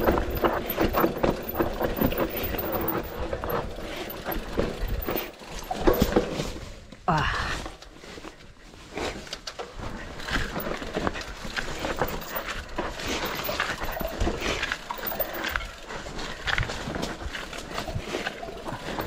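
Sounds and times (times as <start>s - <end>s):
bike knocking and rattling: 0.0s - 7.0s, 9.3s - 19.0s.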